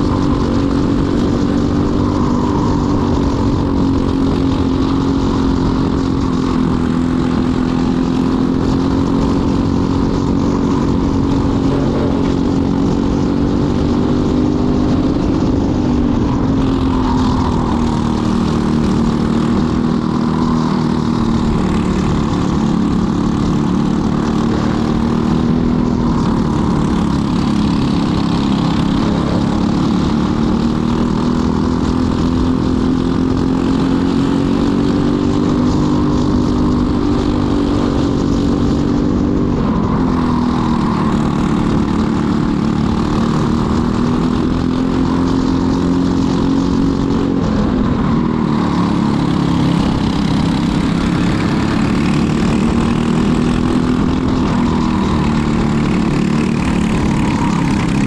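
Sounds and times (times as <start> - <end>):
kart engine at high revs: 0.0 - 58.0.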